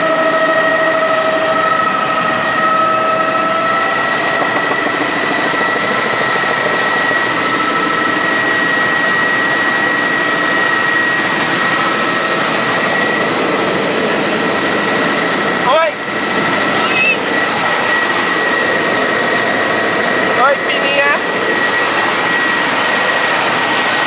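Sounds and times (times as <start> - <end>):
helicopter rotor and turbine: 0.0 - 24.0
high-pitched turbine whine: 0.0 - 24.0.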